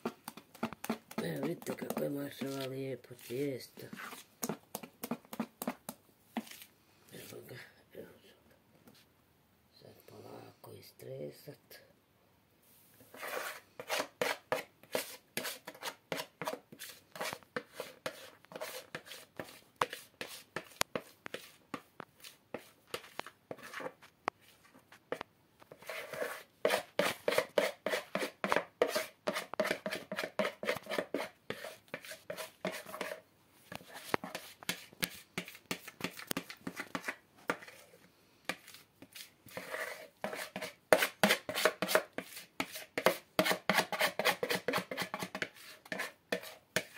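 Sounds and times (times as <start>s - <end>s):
spoon scraping batter from bowl: 0.0s - 5.8s, 13.0s - 33.2s, 33.8s - 46.9s.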